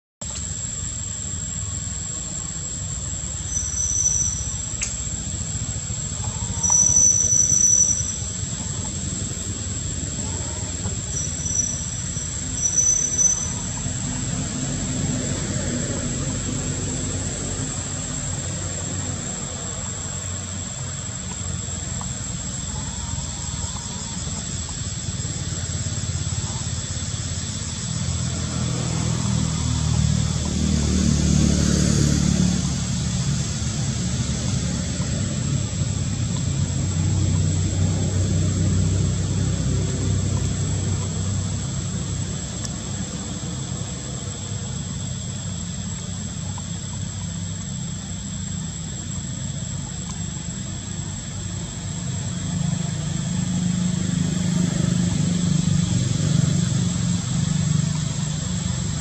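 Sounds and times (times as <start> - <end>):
vehicle engine rumbling: 0.2 - 59.0.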